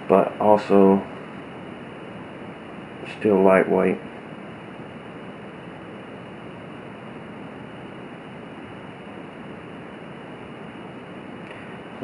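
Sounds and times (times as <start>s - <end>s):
alcohol stove hissing: 0.0s - 12.0s.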